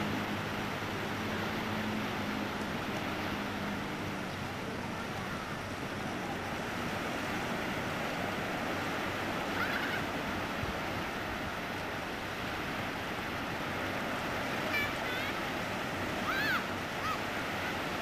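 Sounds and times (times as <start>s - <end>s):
sea surf on beach: 0.0s - 18.0s.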